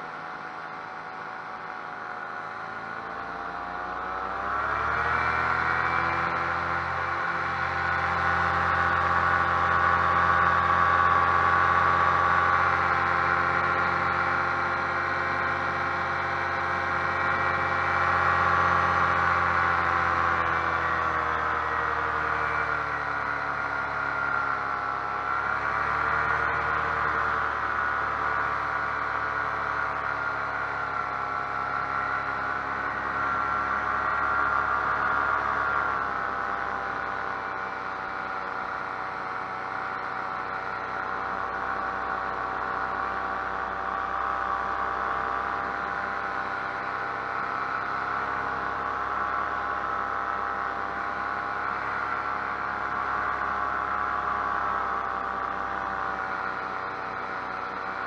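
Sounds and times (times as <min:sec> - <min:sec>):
paramotor engine droning: 0:00.0 - 0:58.0.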